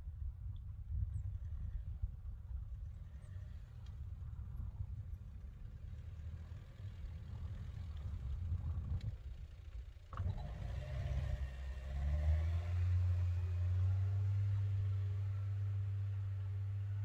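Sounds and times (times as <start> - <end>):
pickup truck engine in snow: 3.0 - 17.0.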